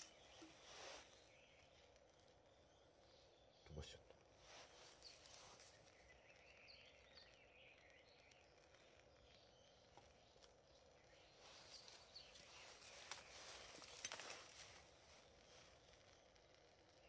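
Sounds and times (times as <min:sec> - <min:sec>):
faint high chirps: 0:00.0 - 0:17.0.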